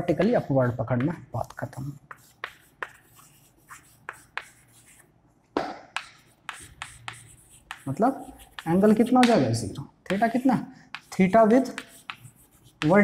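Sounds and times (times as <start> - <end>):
chalk writing on blackboard: 0.0 - 5.1, 6.0 - 13.0.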